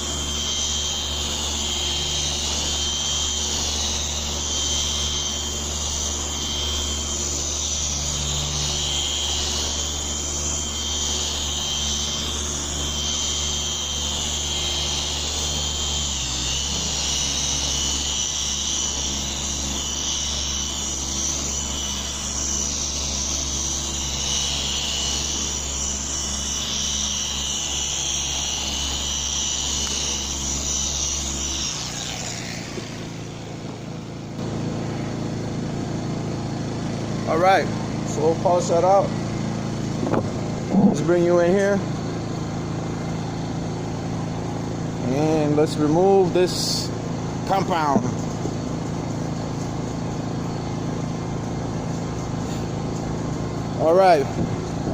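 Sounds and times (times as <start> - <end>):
electric car polisher whining: 0.0 - 54.9.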